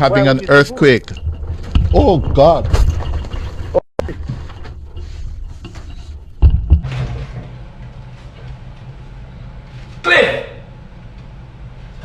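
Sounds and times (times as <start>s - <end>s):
building rumbling and rattling: 0.0s - 9.6s.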